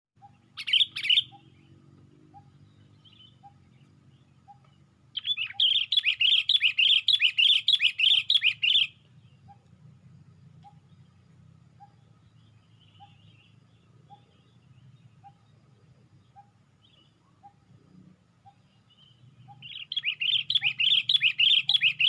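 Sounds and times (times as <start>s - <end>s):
bulbul singing: 0.2s - 22.0s.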